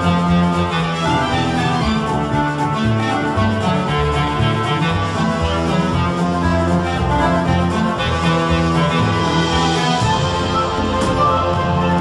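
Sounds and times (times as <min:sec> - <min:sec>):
instrumental music with bass line: 0:00.0 - 0:12.0.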